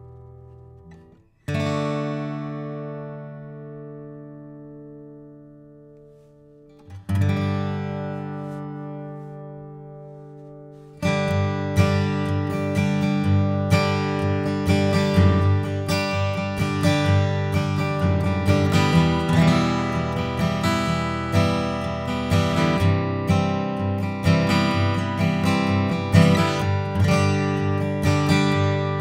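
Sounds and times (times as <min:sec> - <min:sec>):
acoustic guitar chords strummed: 0:00.0 - 0:29.0.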